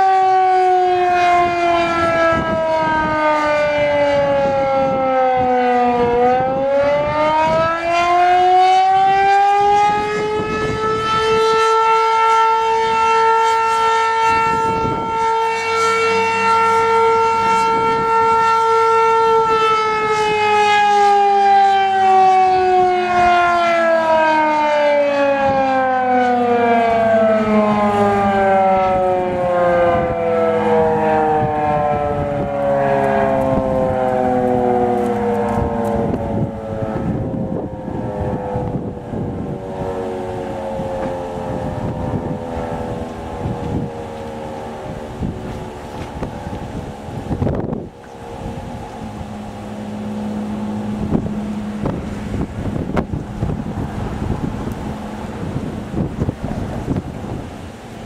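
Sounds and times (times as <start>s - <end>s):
outdoor warning siren: 0.0s - 58.0s.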